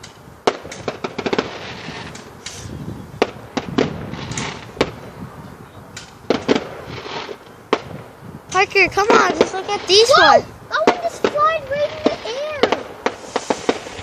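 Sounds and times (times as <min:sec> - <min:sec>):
crackling pops: 0:00.0 - 0:05.2, 0:05.8 - 0:14.0
fireworks bangs: 0:00.0 - 0:14.0
fireworks hiss: 0:00.0 - 0:14.0.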